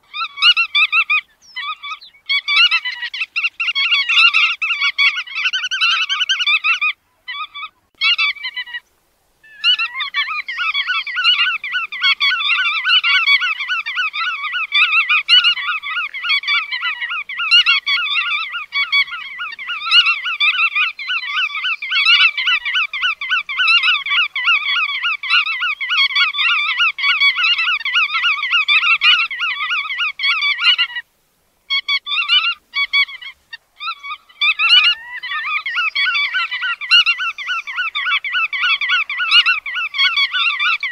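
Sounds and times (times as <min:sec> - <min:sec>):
godwits calling in rapid chatter: 0:00.1 - 0:08.8, 0:09.5 - 0:31.0, 0:31.7 - 0:40.9.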